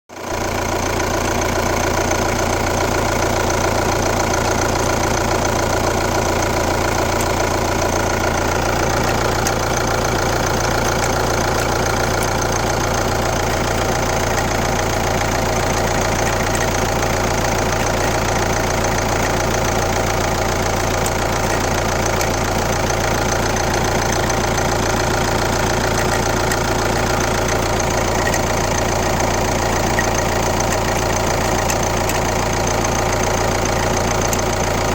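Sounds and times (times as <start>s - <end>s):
diesel engine running: 0.2s - 34.9s
weird engine noise: 0.4s - 34.9s.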